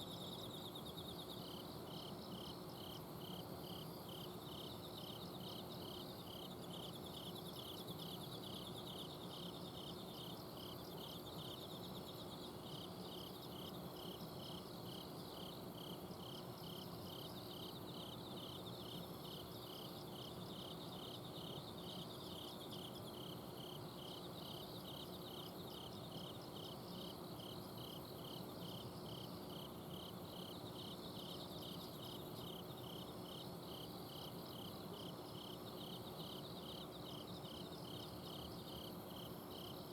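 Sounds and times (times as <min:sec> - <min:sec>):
cricket chirps: 0:00.0 - 0:39.9
crickets trilling: 0:00.0 - 0:39.9.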